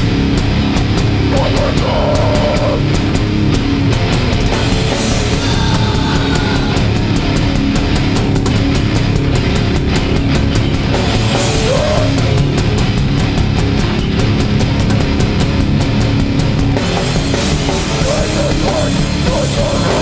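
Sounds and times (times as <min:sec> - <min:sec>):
distorted electric guitars and bass: 0:00.0 - 0:20.0
fast drum beat: 0:00.0 - 0:20.0.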